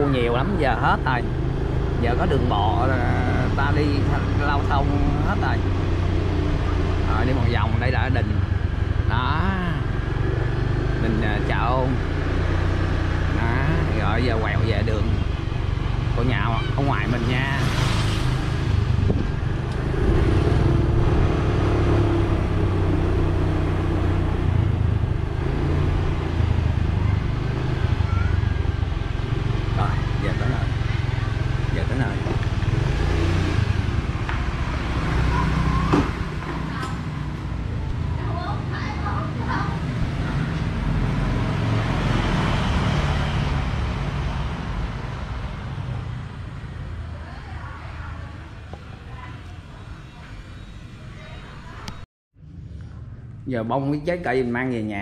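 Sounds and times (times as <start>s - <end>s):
vehicle passing by: 0.0s - 51.5s.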